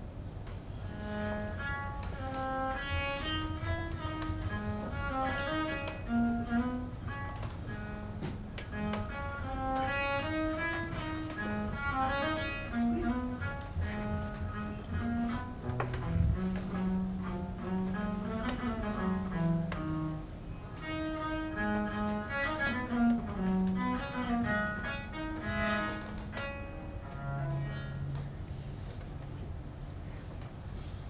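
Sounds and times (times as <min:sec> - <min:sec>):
solo bowed string instrument: 0:00.0 - 0:31.0.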